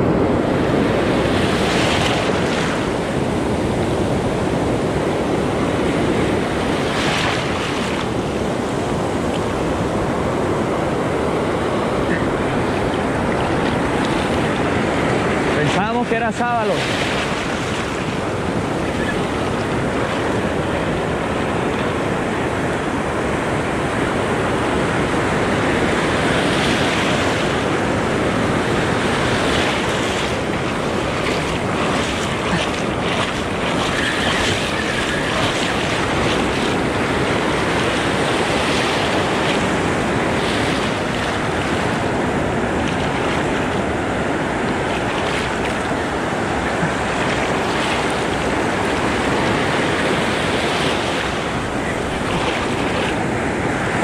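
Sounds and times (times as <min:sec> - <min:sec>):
ocean surf washing: 0:00.0 - 0:54.0
wind buffeting microphone: 0:00.0 - 0:54.0.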